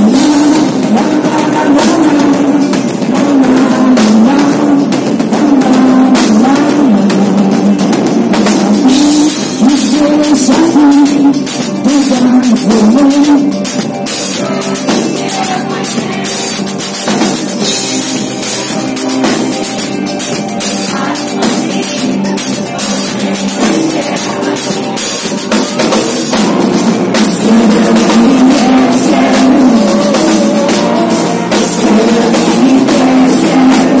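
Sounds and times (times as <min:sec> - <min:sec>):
drum kit with cymbal hits: 0:00.0 - 0:34.0
keyboards: 0:00.0 - 0:34.0
person singing: 0:00.0 - 0:34.0.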